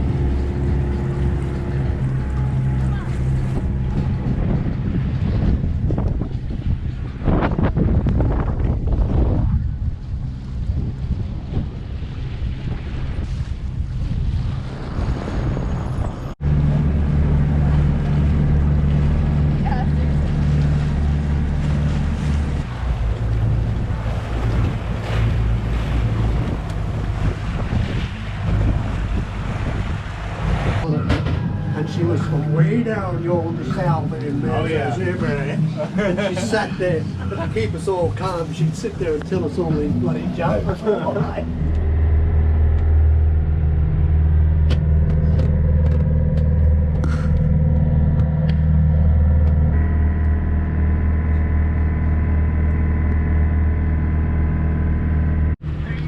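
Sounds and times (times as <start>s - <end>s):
rushing water: 0.0s - 47.6s
wind buffeting microphone: 0.0s - 50.2s
low boat engine rumble: 0.0s - 56.0s.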